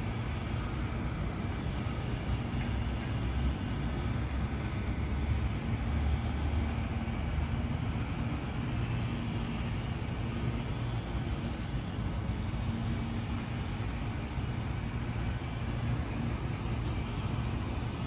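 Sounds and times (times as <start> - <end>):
faint hum: 0.0 - 18.0
low rumbling background noise: 0.0 - 18.0.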